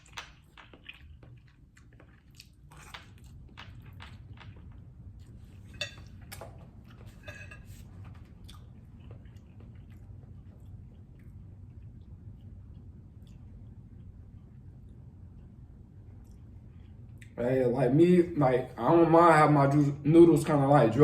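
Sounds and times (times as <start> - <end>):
chewing noodles: 0.0 - 17.4
steady low hum: 0.0 - 21.0.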